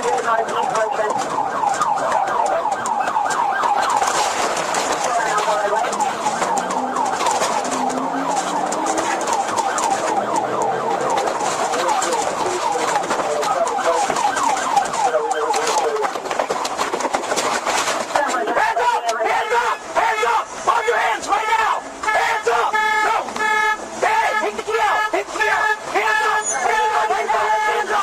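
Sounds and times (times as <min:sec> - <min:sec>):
police siren yelp: 0:00.0 - 0:16.8, 0:18.2 - 0:28.0.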